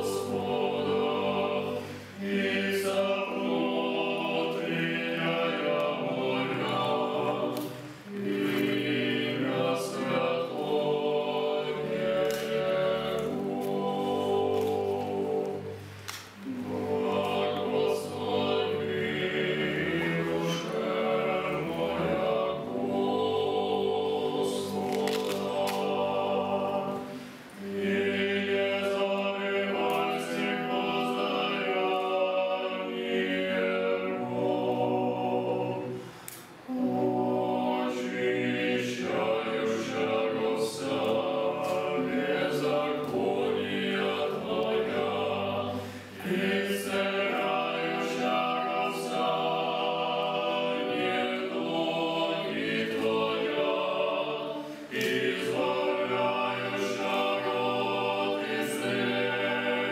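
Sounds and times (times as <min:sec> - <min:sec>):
choir singing held notes: 0:00.0 - 0:59.9.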